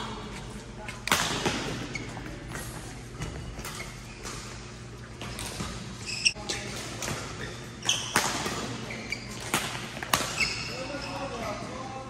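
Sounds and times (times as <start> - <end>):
shoes squeaking on floor: 1.6 - 11.6.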